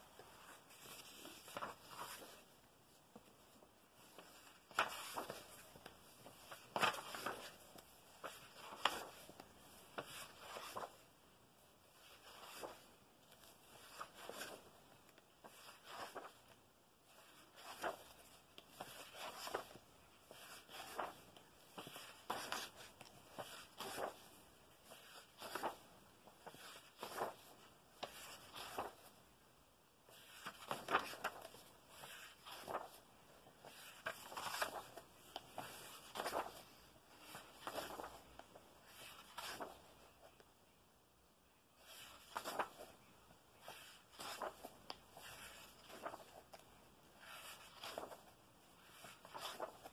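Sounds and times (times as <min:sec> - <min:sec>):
paper pages turning: 0:00.1 - 0:11.2, 0:11.8 - 0:29.3, 0:30.0 - 0:40.5, 0:41.8 - 0:49.9.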